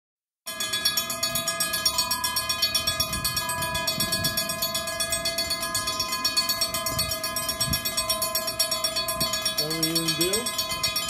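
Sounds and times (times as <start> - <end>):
level crossing warning bells ringing: 0.5 - 11.0.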